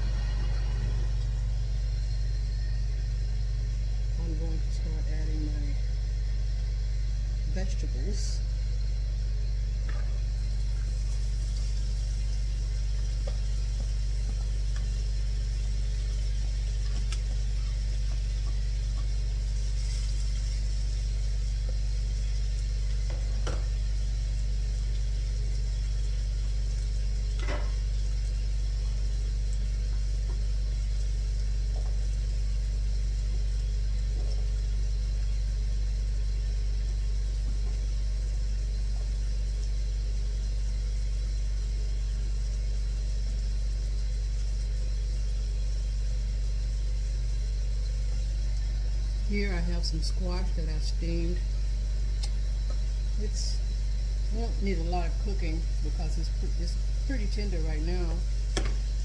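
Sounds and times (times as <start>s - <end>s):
food sizzling: 0.0s - 59.0s
indoor grill fan hum: 0.0s - 59.0s.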